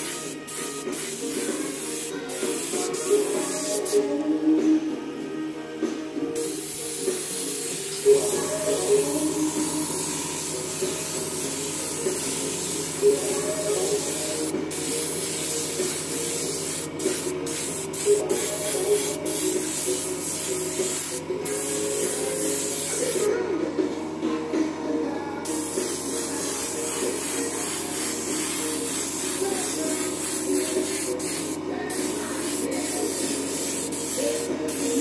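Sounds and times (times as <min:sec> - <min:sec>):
airbrush hissing: 0:00.0 - 0:04.0, 0:06.4 - 0:23.3, 0:25.5 - 0:35.0.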